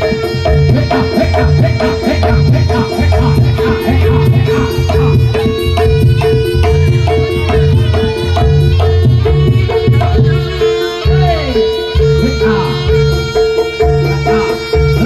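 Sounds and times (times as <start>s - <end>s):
hand drums beating: 0.0s - 15.0s
traditional music: 0.0s - 15.0s.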